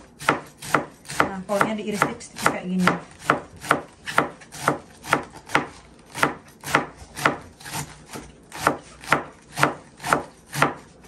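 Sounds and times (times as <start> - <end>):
knife slicing cabbage on board: 0.0 - 11.0.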